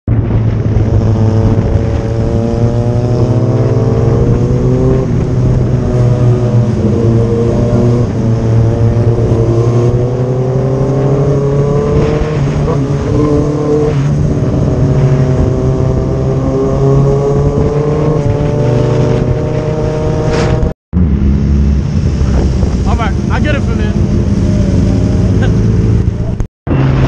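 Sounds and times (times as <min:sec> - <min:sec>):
motorcycle engine running: 0:00.1 - 0:27.0
wind and road noise: 0:00.1 - 0:27.0.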